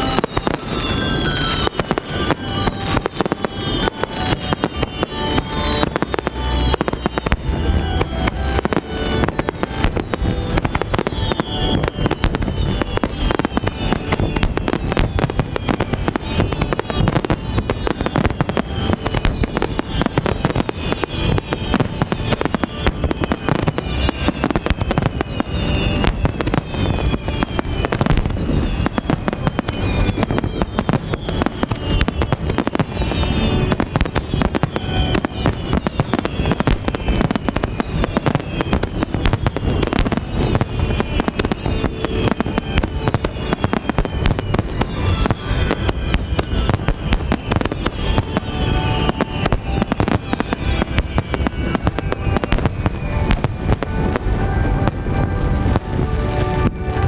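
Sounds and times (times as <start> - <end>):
firework shell bursts and crackling: 0.0 - 57.0
firework whistles falling in pitch: 0.0 - 57.0.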